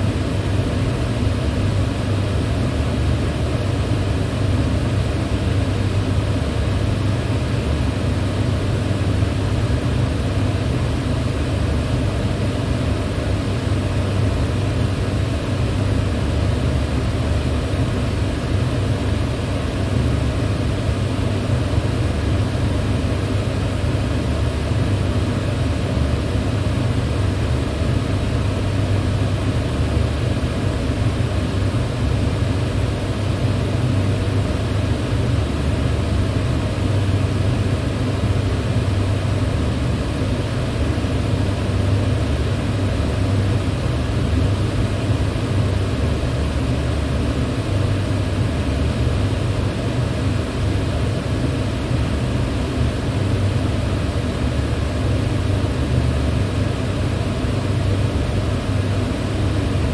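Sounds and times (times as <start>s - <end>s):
electric fan running: 0.0s - 59.9s.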